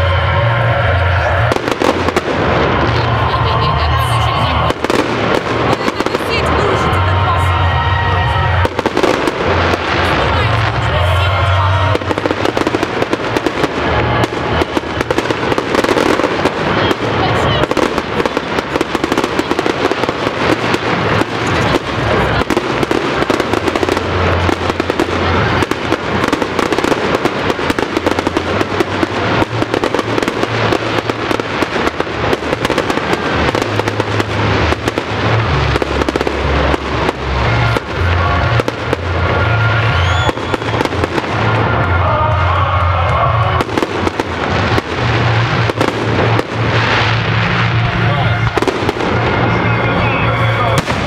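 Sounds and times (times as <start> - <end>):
fireworks crackling and popping: 0.0 - 51.0.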